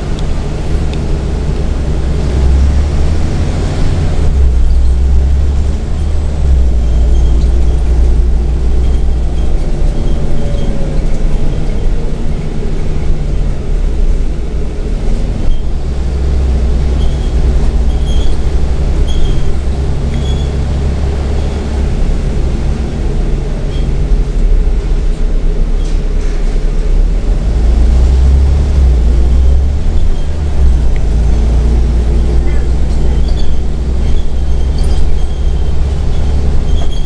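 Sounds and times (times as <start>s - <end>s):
bus engine drone from inside: 0.0s - 37.0s.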